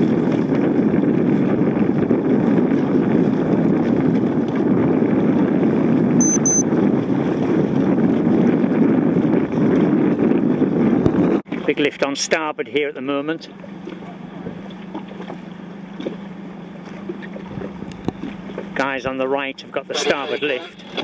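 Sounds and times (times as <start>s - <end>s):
wind buffeting microphone: 0.0s - 12.5s, 13.4s - 19.6s
boat rushing rumble: 0.0s - 21.0s.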